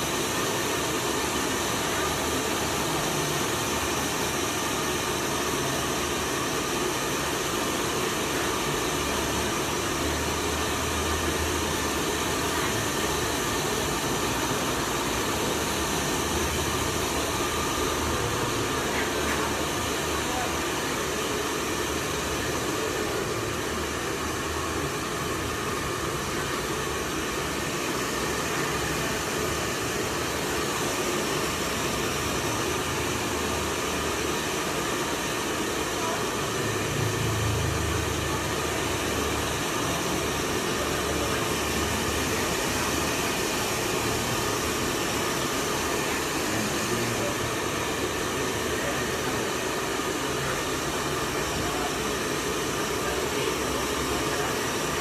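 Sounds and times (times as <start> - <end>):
hair dryer blowing air: 0.0 - 55.0.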